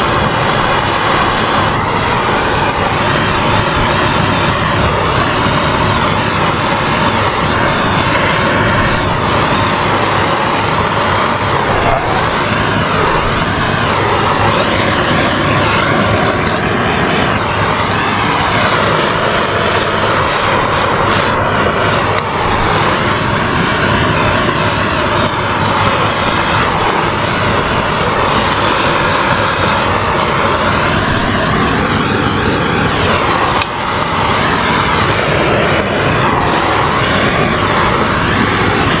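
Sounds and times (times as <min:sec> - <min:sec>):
gas torch flame rushing: 0:00.0 - 0:39.0.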